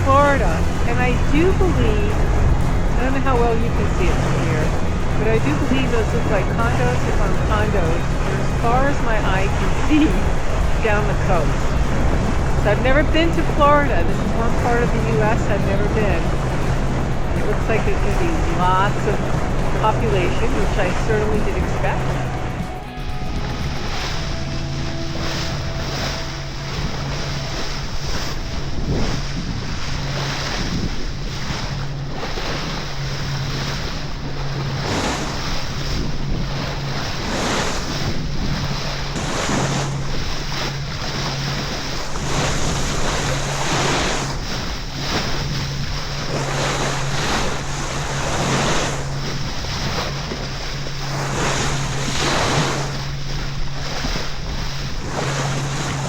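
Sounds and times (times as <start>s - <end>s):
sea water rushing past boat: 0.0s - 56.0s
steady low hum: 0.0s - 56.0s
wind buffeting microphone: 0.0s - 56.0s.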